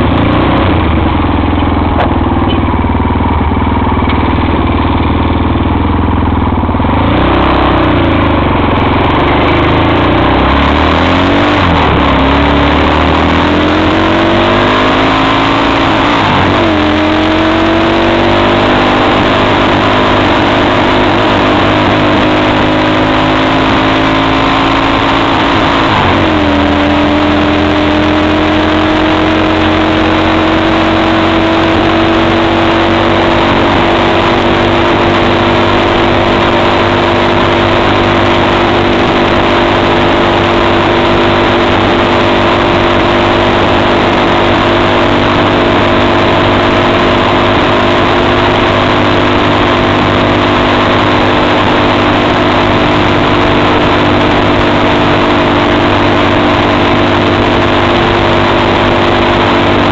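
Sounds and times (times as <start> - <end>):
loud rushing noise: 0.0 - 59.9
quad engine running: 0.0 - 59.9.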